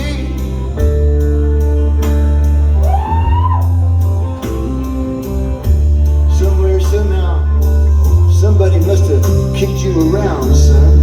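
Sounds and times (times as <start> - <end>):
live rock band: 0.0 - 11.0.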